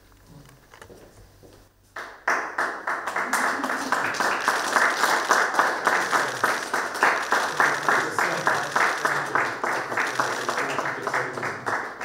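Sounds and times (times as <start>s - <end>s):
people clapping: 1.9s - 12.0s.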